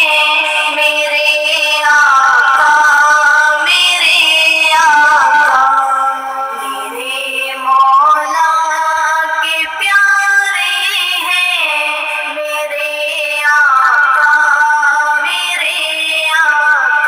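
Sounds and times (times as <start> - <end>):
woman singing devotional song: 0.0 - 17.0.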